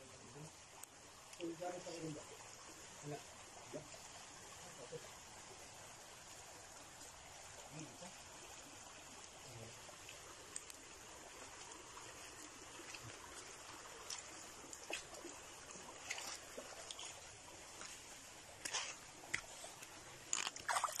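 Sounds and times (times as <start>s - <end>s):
water trickling over rock: 0.0s - 21.0s.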